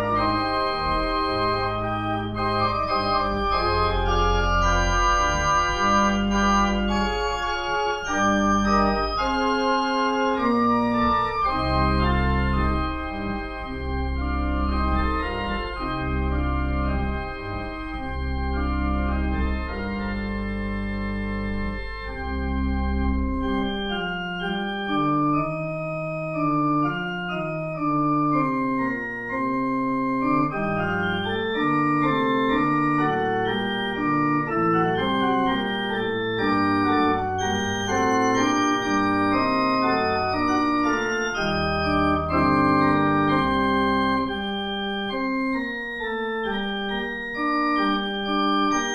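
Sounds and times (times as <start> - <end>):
organ playing chords: 0.0 - 48.9.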